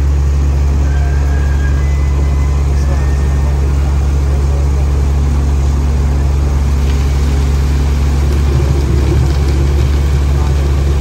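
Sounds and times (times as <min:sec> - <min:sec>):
diesel machinery engine hum: 0:00.0 - 0:11.0.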